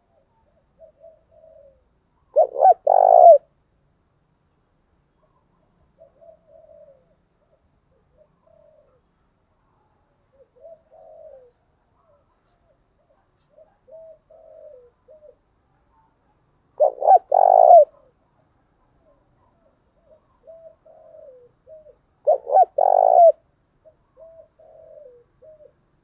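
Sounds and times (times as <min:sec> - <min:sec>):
dove cooing: 0:00.0 - 0:03.5, 0:05.2 - 0:09.1, 0:10.2 - 0:16.1, 0:16.7 - 0:18.3, 0:19.0 - 0:26.0.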